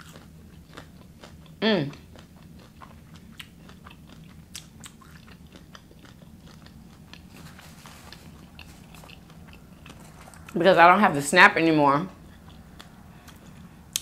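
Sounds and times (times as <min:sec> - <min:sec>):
chewing food: 0:00.0 - 0:10.6, 0:12.2 - 0:14.0
faint low hum: 0:00.0 - 0:14.0.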